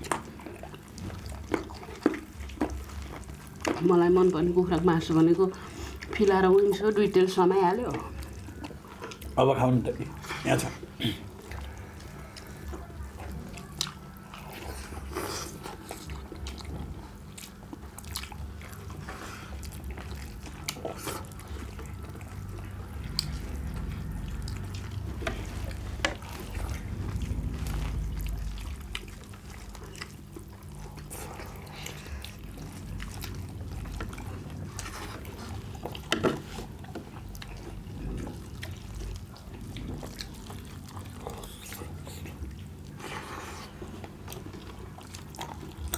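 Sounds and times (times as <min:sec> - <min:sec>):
steady low hum: 0:00.0 - 0:45.9
wet squelching and chewing: 0:00.0 - 0:45.9.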